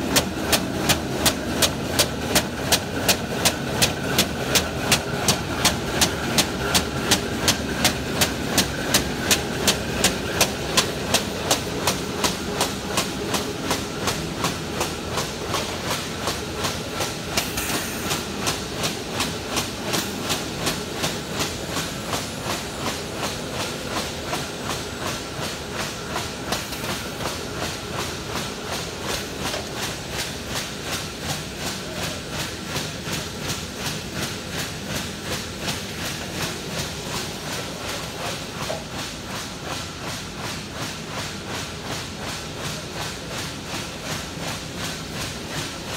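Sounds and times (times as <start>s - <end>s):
continuous machine hiss: 0.0s - 45.9s.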